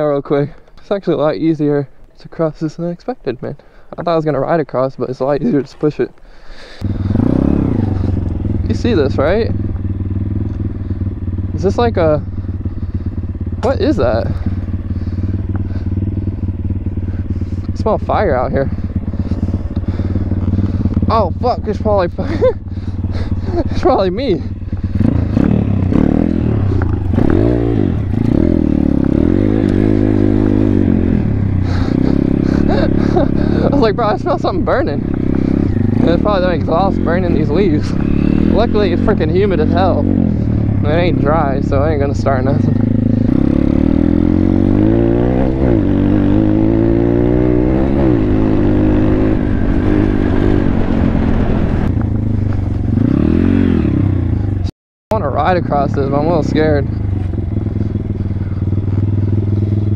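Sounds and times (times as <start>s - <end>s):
motorbike engine revving: 6.6s - 59.9s.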